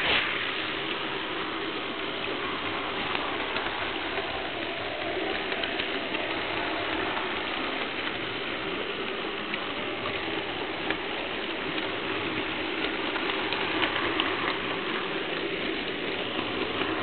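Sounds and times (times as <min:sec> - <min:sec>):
model train rattle and hum: 0:00.0 - 0:17.0.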